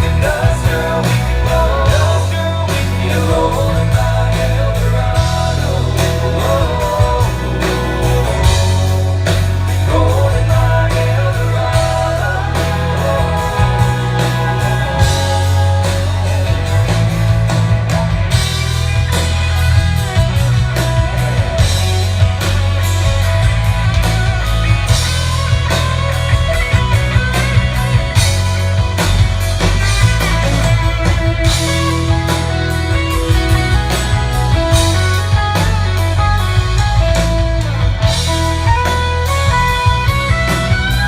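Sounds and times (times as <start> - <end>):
drum kit beat: 0.0 - 41.0
electric guitar: 0.0 - 41.0
heavy bass line: 0.0 - 41.0.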